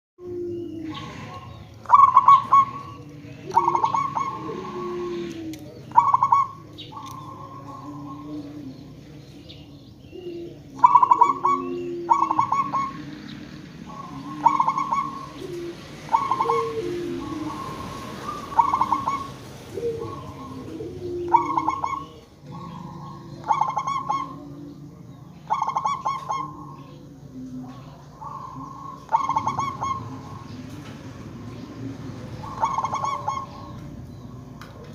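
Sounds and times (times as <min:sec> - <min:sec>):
doves cooing: 0:00.2 - 0:34.9.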